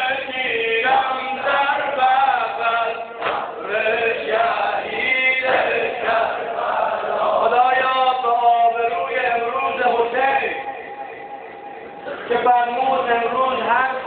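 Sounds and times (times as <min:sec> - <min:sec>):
men chanting in held notes: 0:00.0 - 0:12.4.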